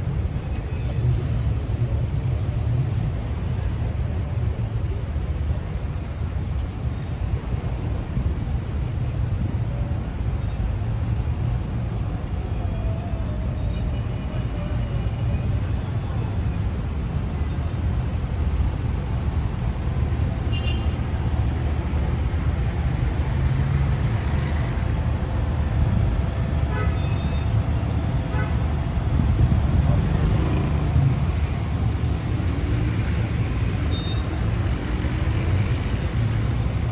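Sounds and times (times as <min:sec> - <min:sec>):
traffic rumble: 0:00.0 - 0:36.9.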